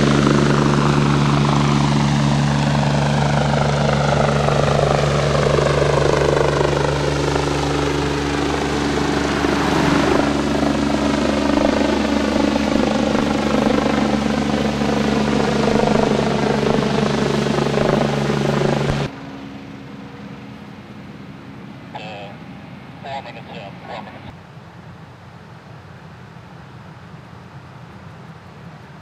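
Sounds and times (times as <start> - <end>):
helicopter rotor and engines: 0.0 - 29.0.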